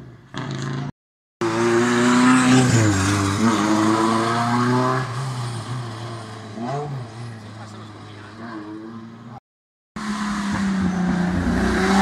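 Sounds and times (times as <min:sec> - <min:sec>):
rally car engine revving: 0:00.3 - 0:09.4, 0:10.0 - 0:12.0.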